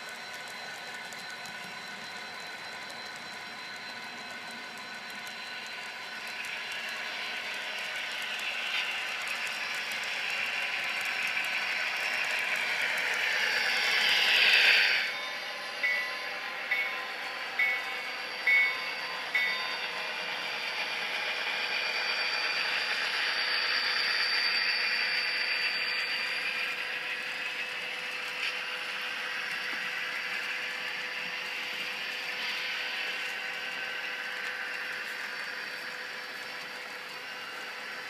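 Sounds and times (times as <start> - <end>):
model train motors whirring: 0.0 - 38.0.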